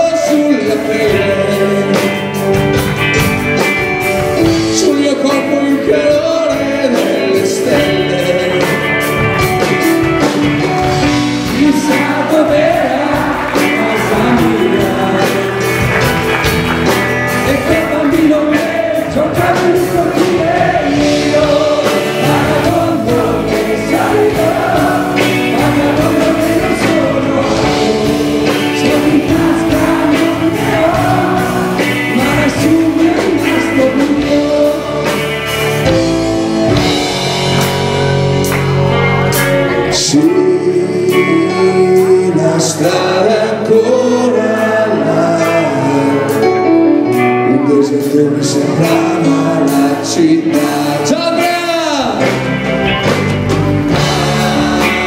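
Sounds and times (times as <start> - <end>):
person singing: 0.0 - 3.0, 4.2 - 9.8, 10.5 - 37.0, 39.2 - 52.4, 53.9 - 55.0
electric guitar: 0.0 - 55.0
keyboard: 0.0 - 55.0.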